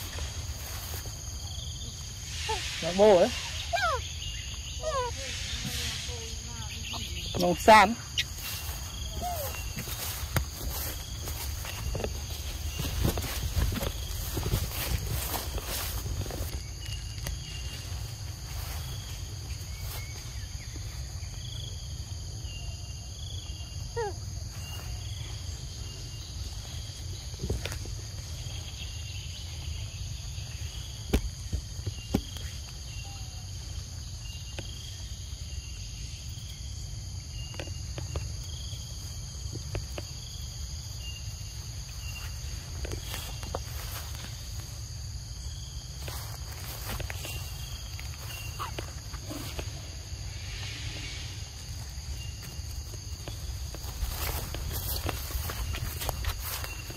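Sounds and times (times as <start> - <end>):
forest insects chorus: 0.0 - 56.9.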